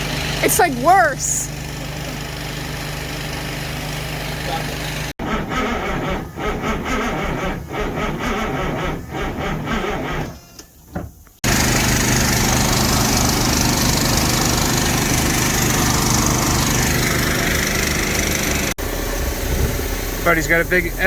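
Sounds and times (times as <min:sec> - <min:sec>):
diesel truck engine running: 0:00.0 - 0:10.1, 0:11.4 - 0:21.0.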